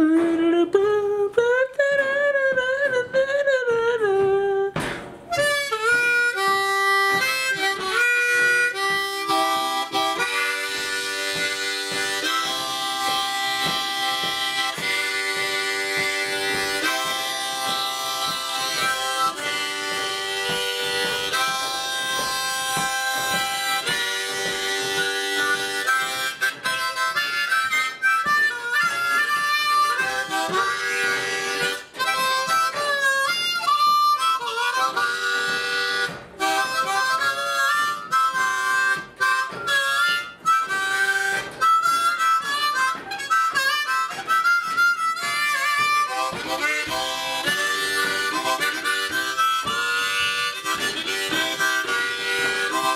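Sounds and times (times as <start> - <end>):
blues harmonica: 0.0 - 52.9.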